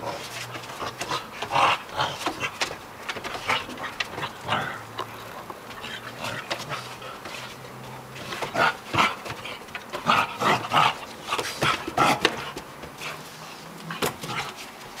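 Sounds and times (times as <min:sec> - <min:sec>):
dogs play-wrestling: 0:00.0 - 0:15.0.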